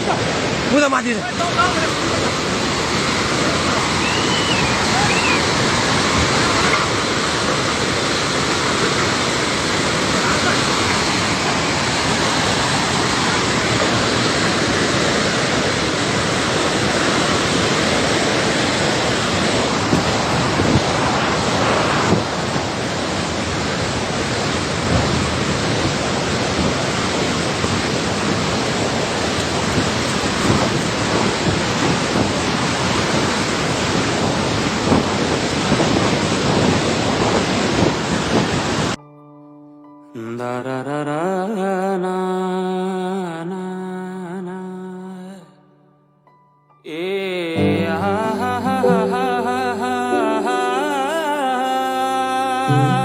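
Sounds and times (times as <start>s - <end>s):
flooded river rushing: 0.0s - 39.0s, 47.5s - 53.0s.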